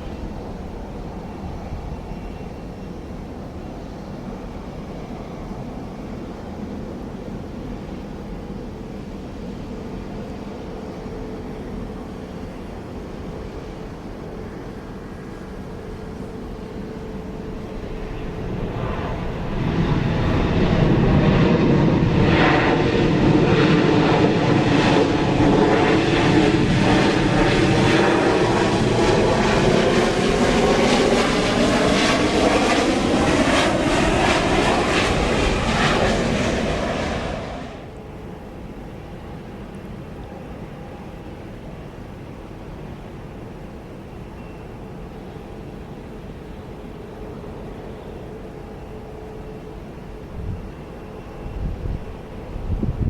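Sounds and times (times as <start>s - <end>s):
jet airliner engines rumbling: 0.0s - 53.0s.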